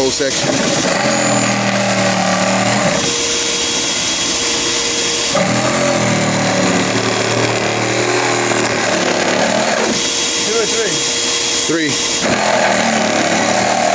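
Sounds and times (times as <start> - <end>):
vacuum motor running: 0.0 - 13.9.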